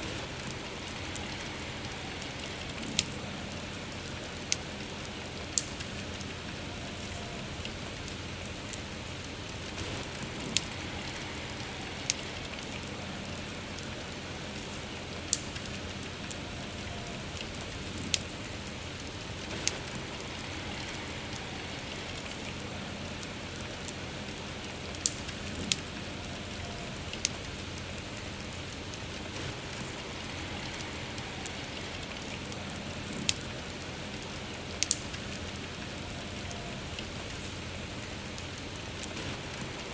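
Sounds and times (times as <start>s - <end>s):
rain hissing: 0.0s - 39.9s
wood fire crackling: 0.0s - 39.9s.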